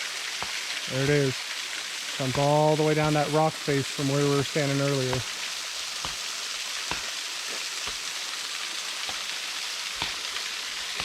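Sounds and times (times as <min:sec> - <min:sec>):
waterfall hissing: 0:00.0 - 0:11.0.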